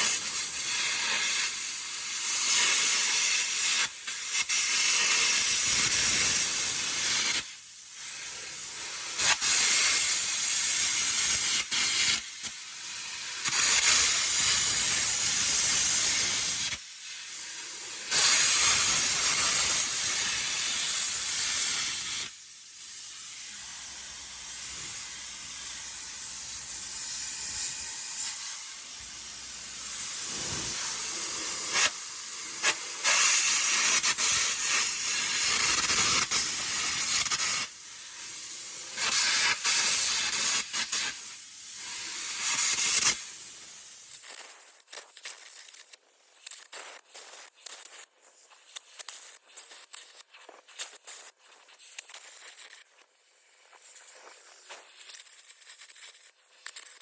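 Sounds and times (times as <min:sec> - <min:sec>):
hissing crackle of arc gouging: 0:00.0 - 0:07.4, 0:08.0 - 0:47.9.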